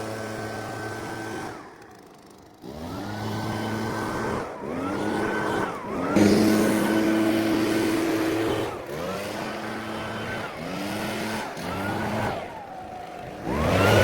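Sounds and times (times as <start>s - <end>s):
small petrol engine revving: 0.0s - 14.0s.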